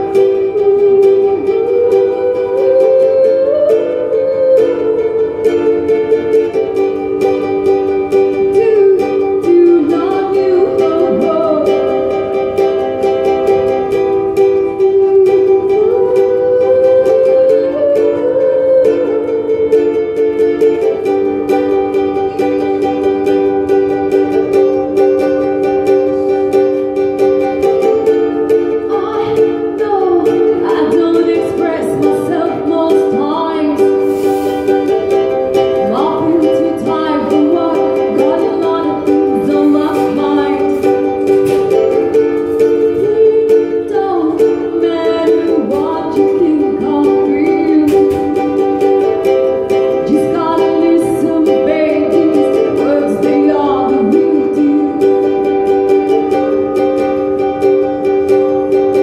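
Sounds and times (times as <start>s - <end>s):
woman singing: 0.0s - 26.4s, 27.4s - 57.0s
strummed ukulele: 0.0s - 59.0s.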